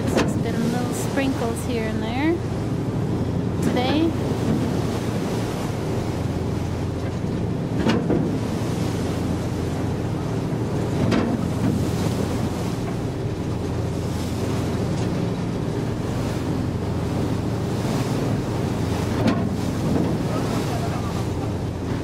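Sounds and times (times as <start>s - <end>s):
sea rushing along hull: 0.0s - 22.0s
ship engine drone: 0.0s - 22.0s.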